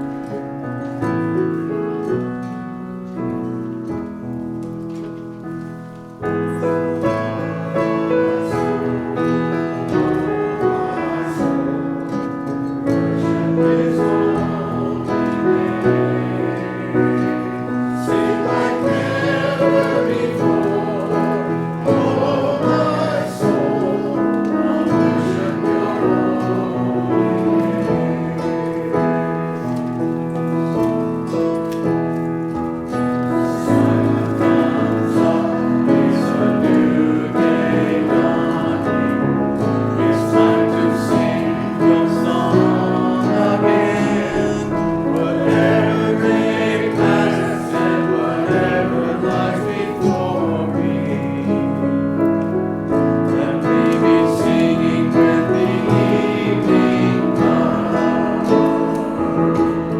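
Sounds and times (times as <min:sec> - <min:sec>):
piano-led band: 0:00.0 - 0:59.9
group singing: 0:06.3 - 0:59.9.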